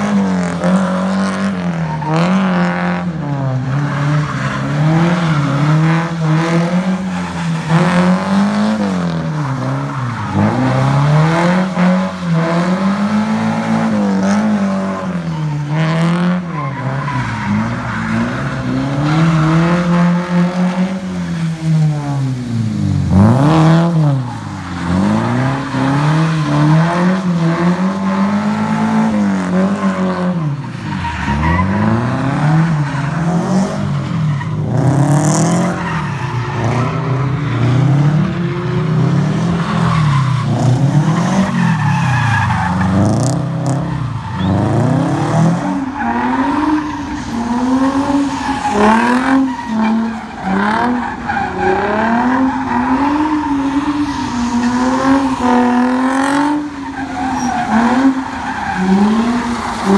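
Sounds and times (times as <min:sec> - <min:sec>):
car engines revving: 0:00.0 - 0:59.9
tyres squealing on asphalt: 0:00.0 - 0:59.9.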